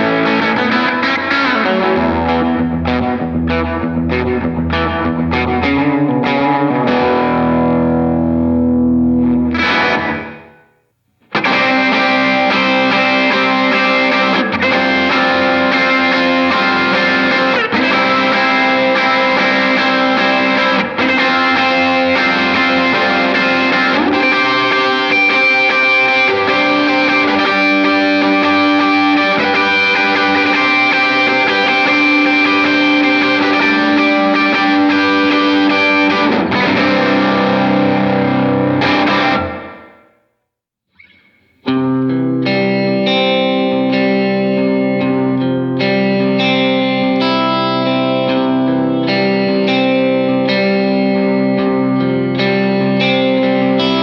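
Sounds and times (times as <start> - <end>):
electric guitar with spring reverb: 0.0 - 40.3, 40.9 - 54.0.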